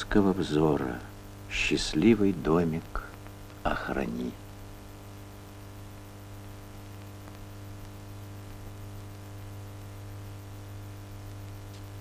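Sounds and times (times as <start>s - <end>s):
film soundtrack hum and hiss: 0.0s - 12.0s.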